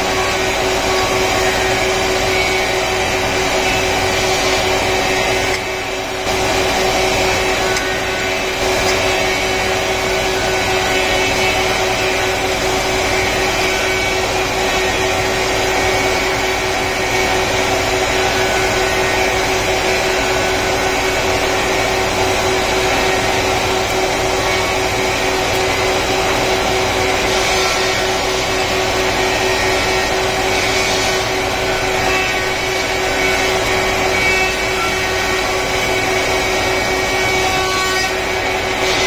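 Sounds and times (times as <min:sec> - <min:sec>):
wood planer machine running: 0:00.0 - 0:39.0.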